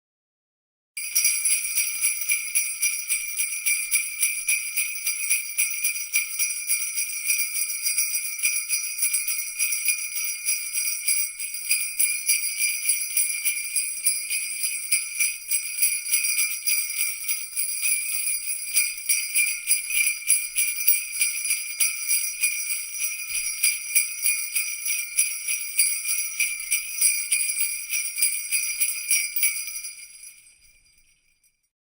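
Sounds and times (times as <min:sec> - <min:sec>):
jingle bells shaken: 0:01.0 - 0:31.7.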